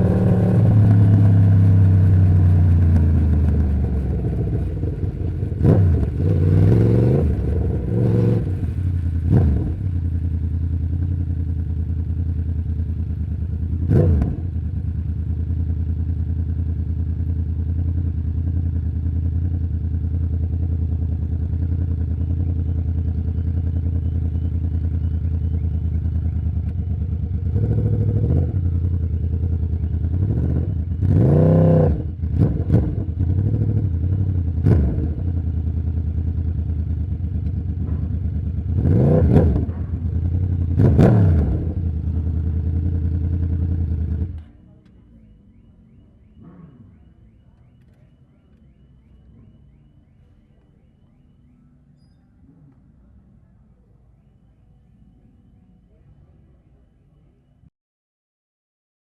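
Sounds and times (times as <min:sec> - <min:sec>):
motorcycle engine revving: 0:00.0 - 0:51.6
motorcycle engine idling: 0:00.0 - 0:57.5.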